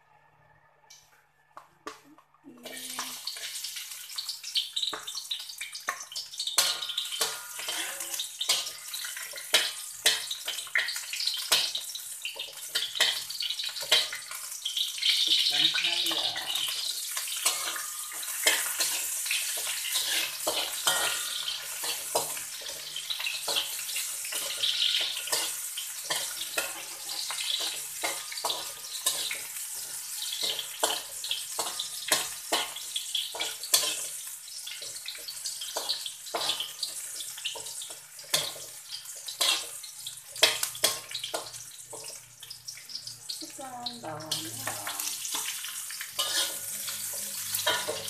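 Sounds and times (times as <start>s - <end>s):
garlic sizzling in hot oil: 2.5s - 48.0s
spatula scraping a wok: 6.1s - 42.2s, 44.4s - 48.0s.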